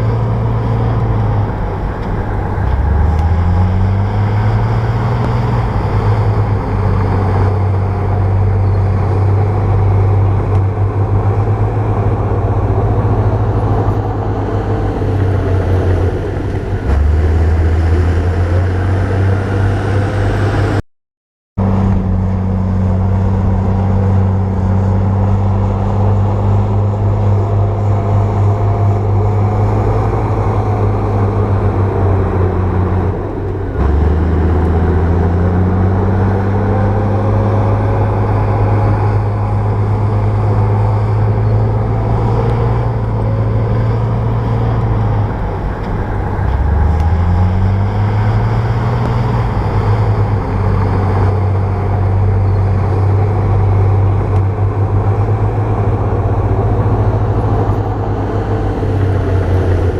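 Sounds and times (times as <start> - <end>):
bulldozer diesel engine: 0.0 - 20.8, 21.6 - 59.9.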